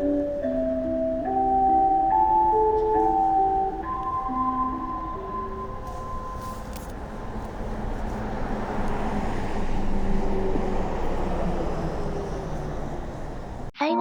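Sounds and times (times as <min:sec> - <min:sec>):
road traffic rumble: 0:00.0 - 0:13.7.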